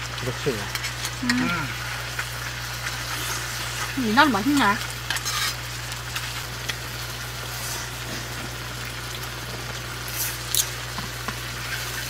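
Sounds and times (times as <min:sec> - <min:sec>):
meat sizzling on griddle: 0:00.0 - 0:12.0.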